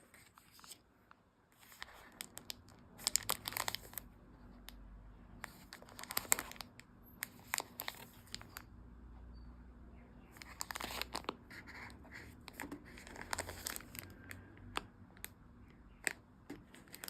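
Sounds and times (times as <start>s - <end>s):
crinkling and rustling: 0.0s - 4.7s, 5.4s - 8.7s, 10.3s - 15.3s, 16.0s - 17.0s.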